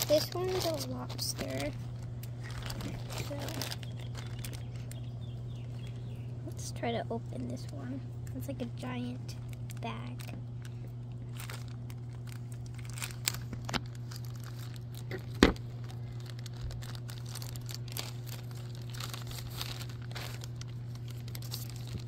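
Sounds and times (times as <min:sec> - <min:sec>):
plastic bag crinkling and tearing: 0:00.0 - 0:05.1, 0:09.0 - 0:22.0
low hum: 0:00.0 - 0:22.0.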